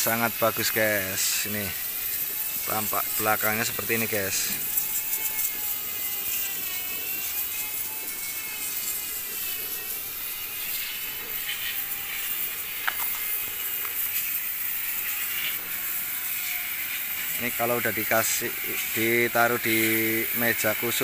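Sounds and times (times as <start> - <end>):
high hiss: 0.0 - 21.0
motor drone with wavering whine: 0.0 - 21.0.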